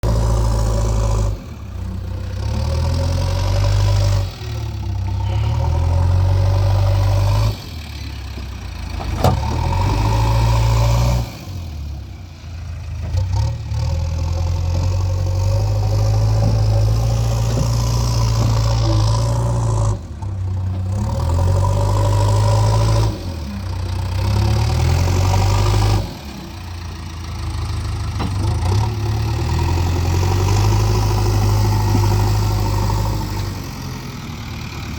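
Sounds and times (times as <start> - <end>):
backhoe diesel engine rumbling: 0.0 - 34.9.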